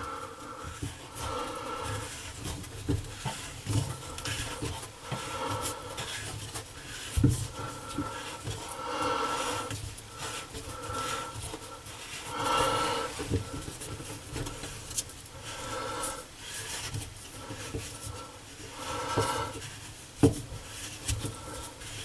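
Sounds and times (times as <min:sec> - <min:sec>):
person breathing: 0:00.0 - 0:02.5, 0:03.1 - 0:19.8.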